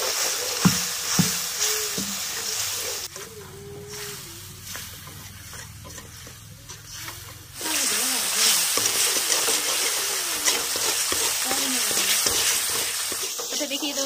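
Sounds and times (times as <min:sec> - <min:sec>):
paste sizzling in a pan: 0:00.0 - 0:14.0
spoon stirring and scraping: 0:00.0 - 0:14.0.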